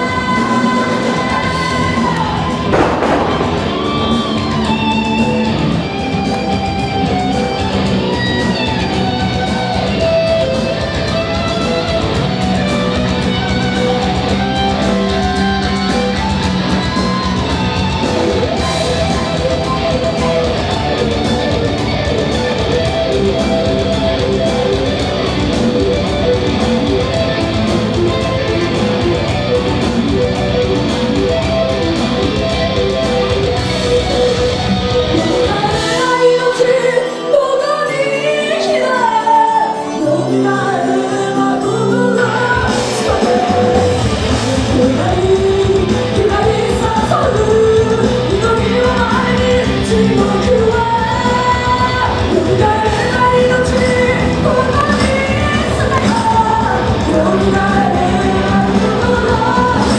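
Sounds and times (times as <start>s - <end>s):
band music: 0.0s - 59.9s
electric guitar lead lines: 0.0s - 59.9s.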